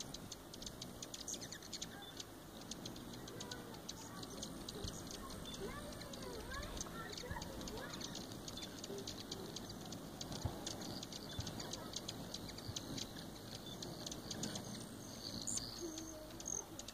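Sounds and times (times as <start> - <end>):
hummingbirds chittering: 0.0 - 16.9.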